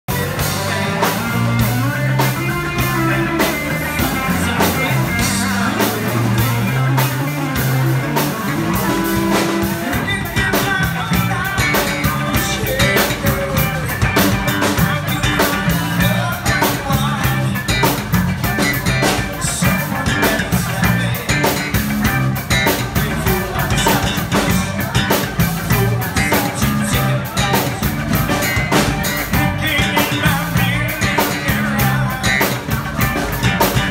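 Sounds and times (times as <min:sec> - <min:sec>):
drums: 0:00.0 - 0:33.9
electric guitars: 0:00.1 - 0:33.9
person singing into microphone: 0:00.1 - 0:33.9.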